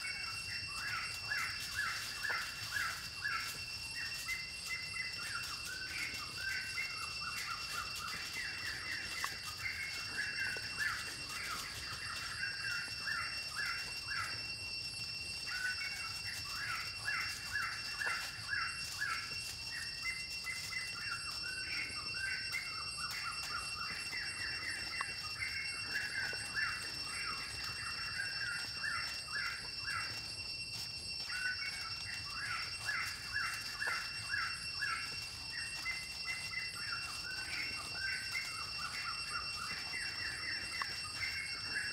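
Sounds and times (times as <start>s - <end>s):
birds chirping: 0.0s - 41.9s
high-pitched insect drone: 0.0s - 41.9s.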